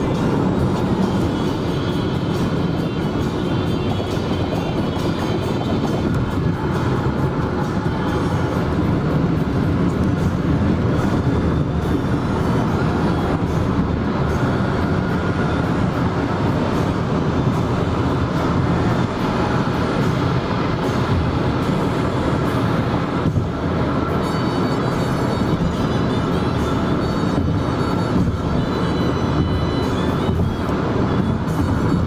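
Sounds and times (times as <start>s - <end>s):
vehicle rumble: 0.0s - 32.0s.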